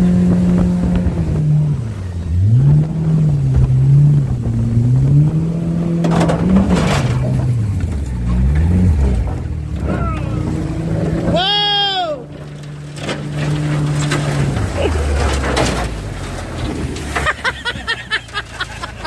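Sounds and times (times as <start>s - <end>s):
outboard motor running: 0.0s - 6.6s, 7.2s - 16.1s.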